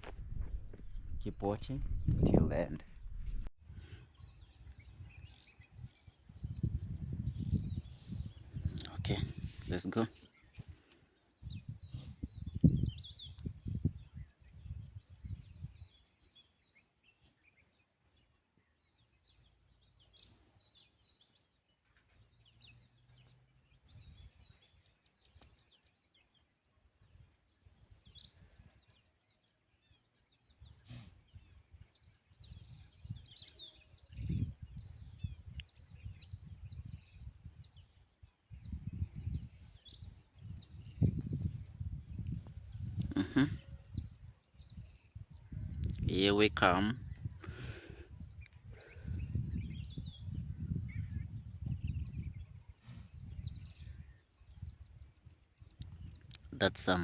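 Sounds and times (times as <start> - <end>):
small birds chirping: 2.6 - 57.0.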